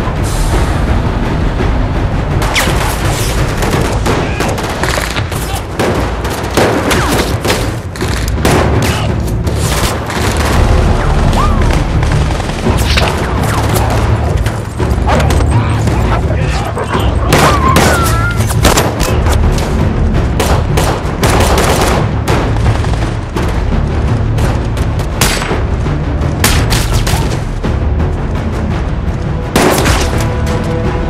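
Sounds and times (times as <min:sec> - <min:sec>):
dramatic film score: 0:00.0 - 0:31.0.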